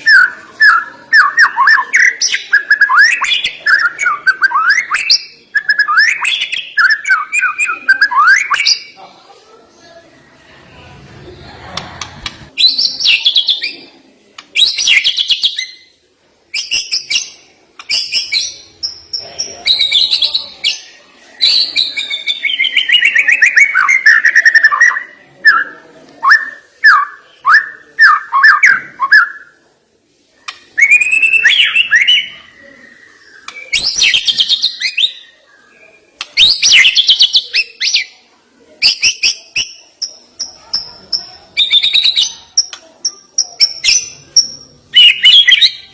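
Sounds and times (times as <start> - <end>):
songbird singing varied phrases: 0.0 - 9.0, 12.6 - 29.5, 30.7 - 38.2, 38.8 - 45.9.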